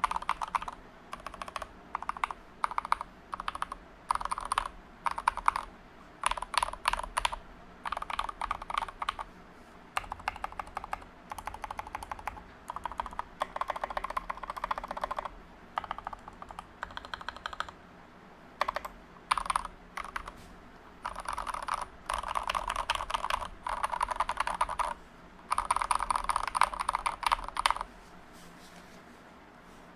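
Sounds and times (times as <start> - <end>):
mechanical keyboard typing: 0.0 - 9.3, 10.0 - 17.8, 18.6 - 20.4, 21.0 - 27.9.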